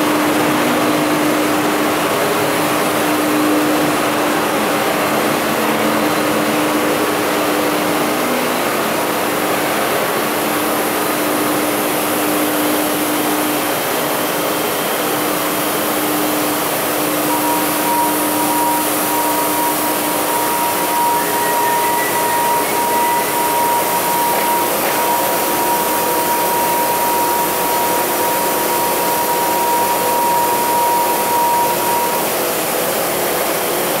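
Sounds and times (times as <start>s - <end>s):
high machine whine: 0.0s - 34.0s
printing machinery hiss and hum: 0.0s - 34.0s.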